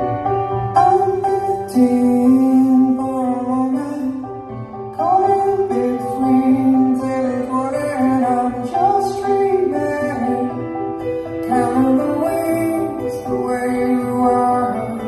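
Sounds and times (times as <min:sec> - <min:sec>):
song over loudspeakers: 0:00.0 - 0:15.0.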